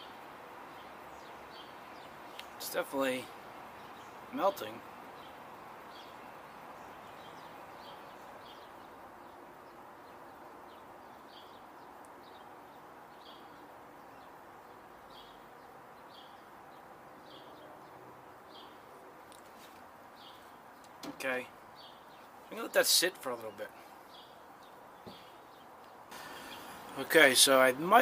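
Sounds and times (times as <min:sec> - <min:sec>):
bird chirping: 0:00.0 - 0:28.0
low ambient hiss: 0:00.0 - 0:28.0.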